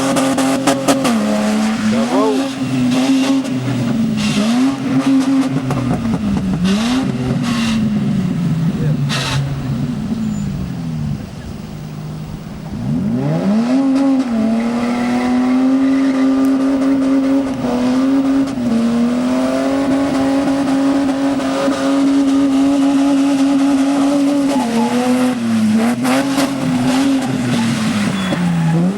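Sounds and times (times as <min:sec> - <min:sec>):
car engine revving hard: 0:00.0 - 0:28.9.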